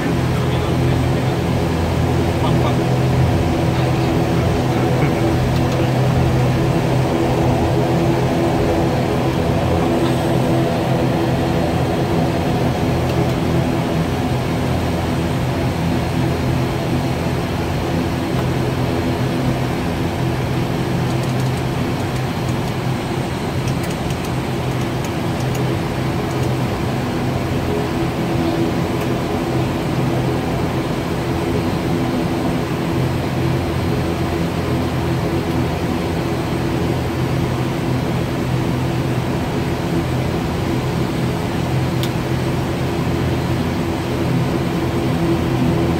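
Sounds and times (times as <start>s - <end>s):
turboprop engines droning: 0.0s - 45.9s.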